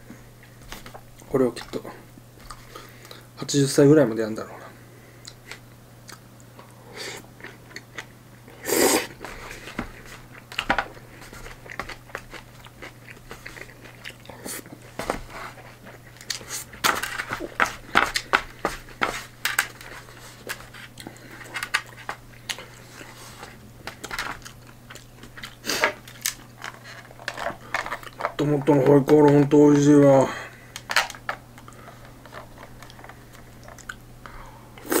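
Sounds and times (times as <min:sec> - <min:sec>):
man chewing food: 0:00.0 - 0:03.2, 0:05.2 - 0:28.4, 0:30.6 - 0:35.0.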